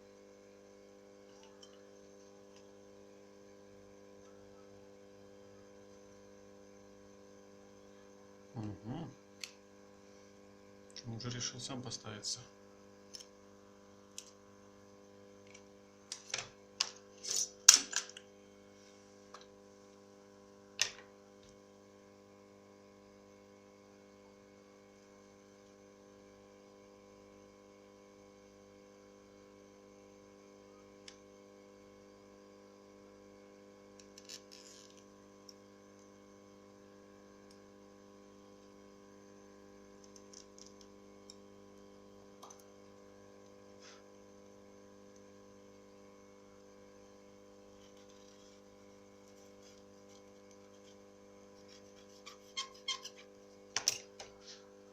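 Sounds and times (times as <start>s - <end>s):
steady electrical hum: 0.0s - 54.9s.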